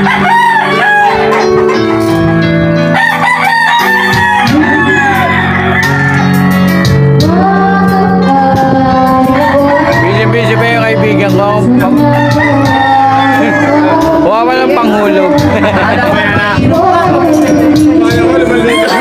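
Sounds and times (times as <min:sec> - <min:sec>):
roosters crowing: 0:00.0 - 0:07.2, 0:08.9 - 0:10.8, 0:11.9 - 0:16.0, 0:16.8 - 0:19.0
loud music with sustained bass: 0:00.0 - 0:19.0.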